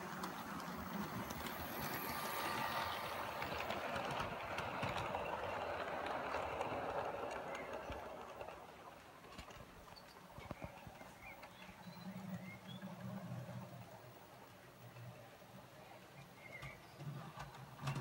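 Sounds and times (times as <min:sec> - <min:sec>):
model train wheels clicking on rails: 0:00.0 - 0:18.0.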